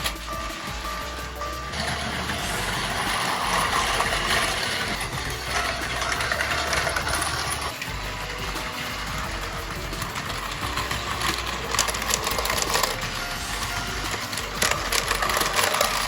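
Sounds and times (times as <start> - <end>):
toy train motor whir: 0.0 - 16.0
wheel rattle on plastic track: 0.0 - 16.0.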